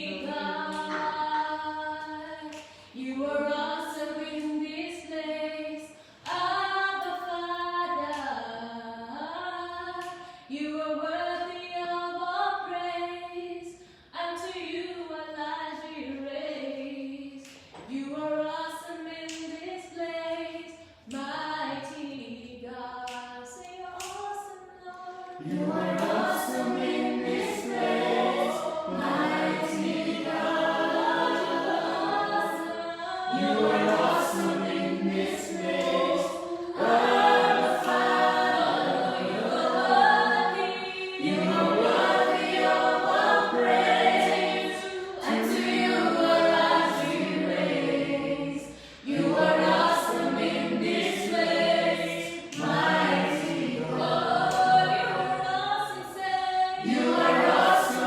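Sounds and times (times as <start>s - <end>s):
group singing a worship song: 0.0s - 58.0s.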